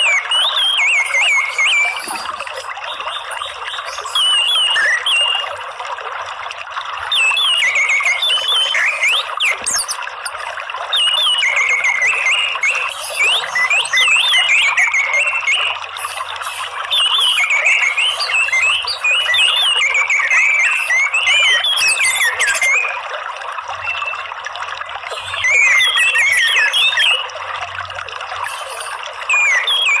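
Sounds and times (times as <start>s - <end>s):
bird singing warbling whistles: 0.0s - 5.6s, 7.1s - 23.1s, 23.8s - 24.4s, 25.1s - 27.4s, 28.4s - 30.0s
trickling water: 0.0s - 30.0s.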